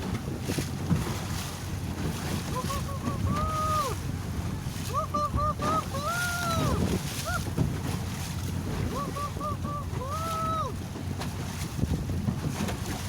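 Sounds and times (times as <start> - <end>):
boat engine: 0.0 - 13.0
wind: 0.0 - 13.0.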